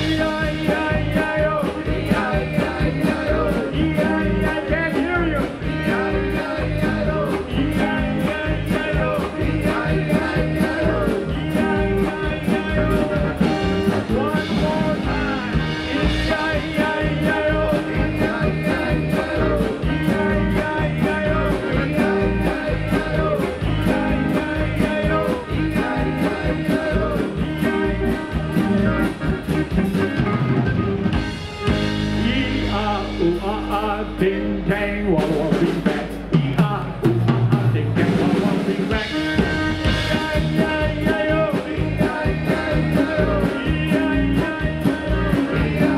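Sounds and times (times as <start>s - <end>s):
man singing: 0.0s - 30.1s, 31.7s - 45.9s
polka band playing: 0.0s - 45.9s.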